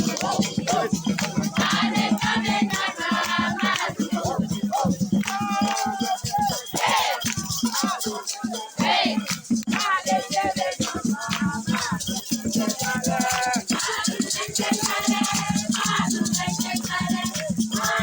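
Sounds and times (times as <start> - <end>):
group of voices singing and chanting: 0.0 - 18.0
shakers rattling: 0.0 - 18.0.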